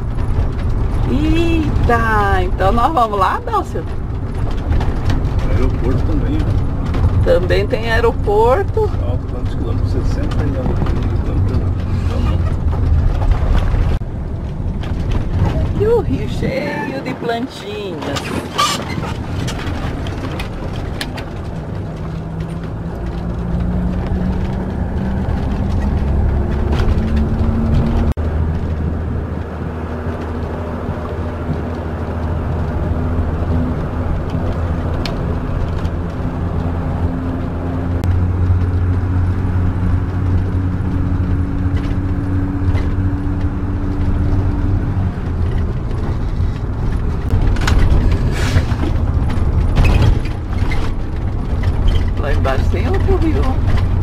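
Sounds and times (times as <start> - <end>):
road noise rumble: 0.0 - 54.0.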